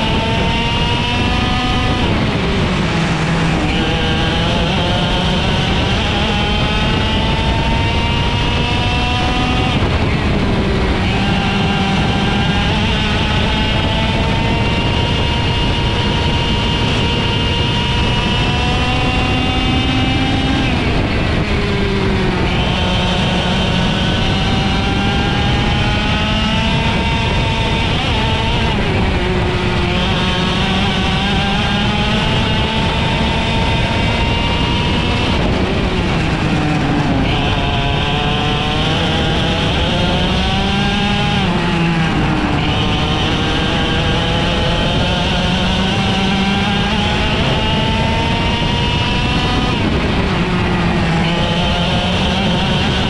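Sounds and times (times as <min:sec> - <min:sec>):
two-stroke kart engine revving: 0:00.0 - 0:53.0.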